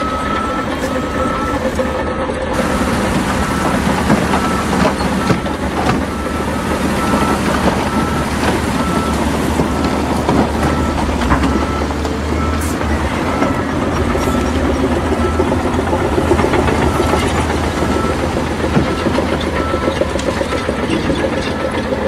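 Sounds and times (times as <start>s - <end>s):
reversing alarm beeping: 0.0s - 21.9s
diesel engine running: 0.0s - 22.0s
machinery knocks: 2.6s - 21.4s.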